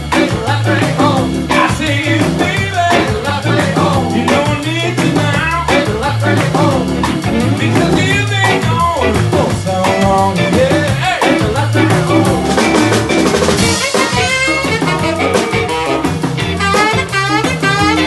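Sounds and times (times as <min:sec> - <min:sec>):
soul-jazz band playing: 0:00.0 - 0:18.0.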